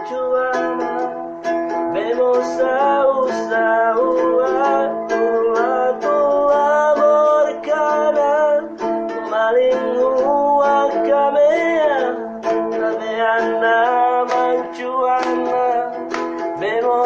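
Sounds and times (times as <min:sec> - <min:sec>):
person singing slow melody: 0:00.0 - 0:17.0
strummed plucked strings: 0:00.0 - 0:17.0.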